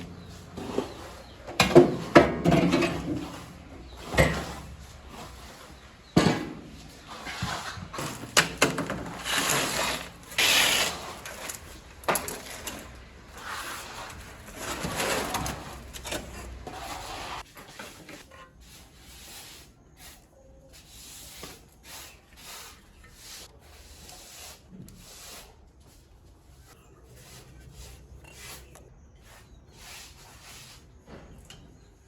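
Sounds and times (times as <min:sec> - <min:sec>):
hand tool scraping and rubbing: 0:00.0 - 0:31.1.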